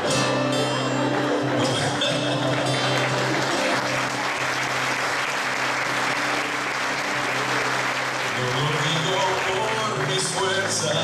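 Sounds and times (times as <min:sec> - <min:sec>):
electric guitar chords: 0:00.0 - 0:11.0
audience applause: 0:00.6 - 0:11.0.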